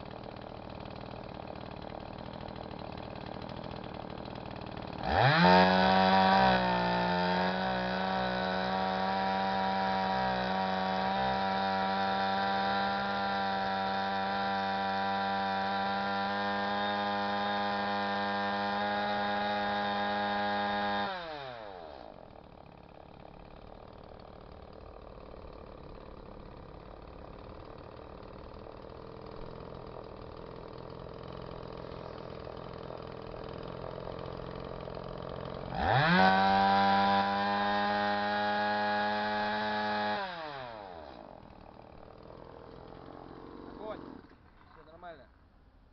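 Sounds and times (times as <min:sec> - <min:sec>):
chainsaw engine revving and idling: 0:00.0 - 0:45.3.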